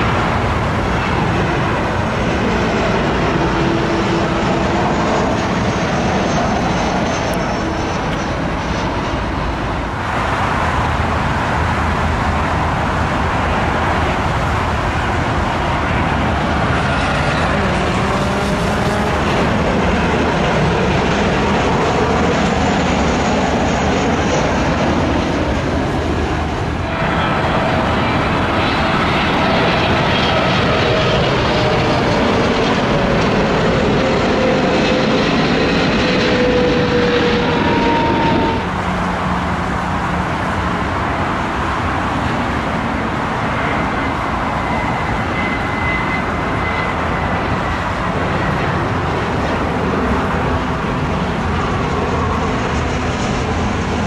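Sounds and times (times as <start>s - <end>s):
jet airliner engines rushing: 0.0s - 54.0s
jet engine whine: 0.0s - 54.0s.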